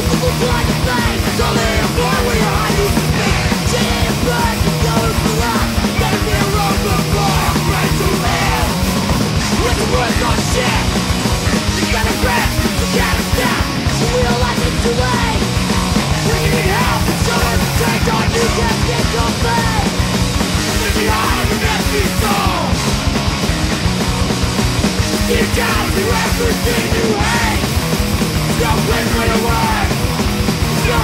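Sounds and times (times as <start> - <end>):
punk band playing: 0.0 - 31.0.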